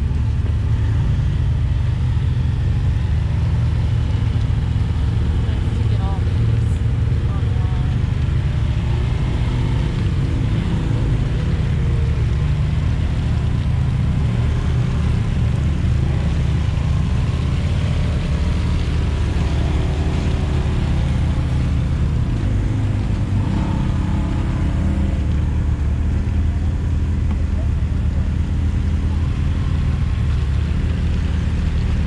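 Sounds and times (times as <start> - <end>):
utility vehicle engine running: 0.0 - 32.0
vehicles driving past revving: 0.0 - 32.0.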